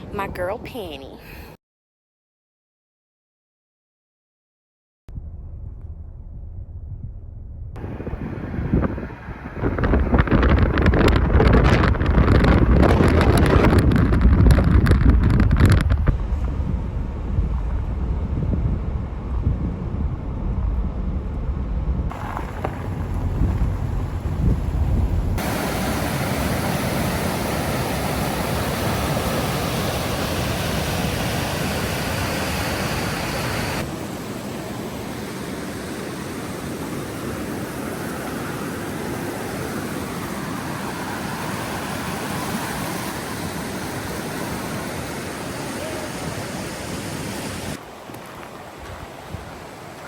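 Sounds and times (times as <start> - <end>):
wind buffeting microphone: 5.1 - 33.9, 37.2 - 50.0
steady rushing noise: 5.2 - 50.0.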